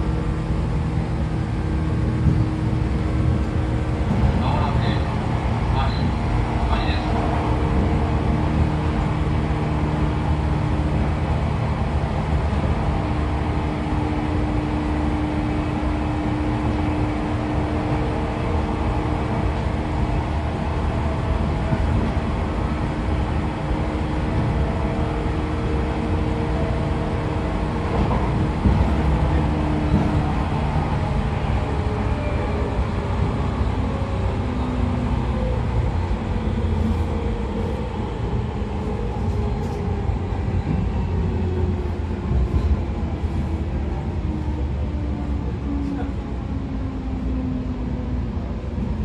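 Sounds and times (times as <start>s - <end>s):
traction motors humming: 0.0s - 49.0s
wheels rumbling on rail: 0.0s - 49.0s.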